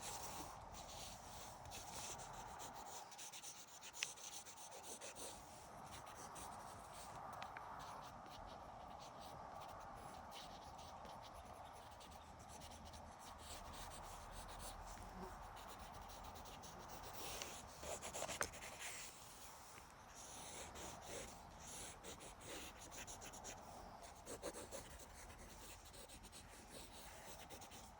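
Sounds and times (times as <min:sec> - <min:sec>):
pen scratching on paper: 0:00.0 - 0:07.2, 0:07.8 - 0:27.9.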